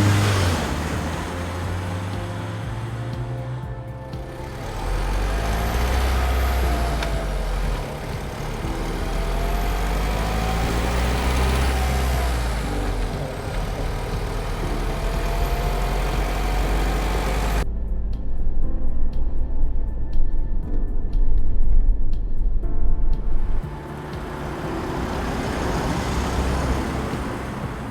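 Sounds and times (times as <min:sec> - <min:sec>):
diesel van engine droning: 0:00.0 - 0:18.1, 0:23.3 - 0:27.9
road and wind noise: 0:00.0 - 0:27.9.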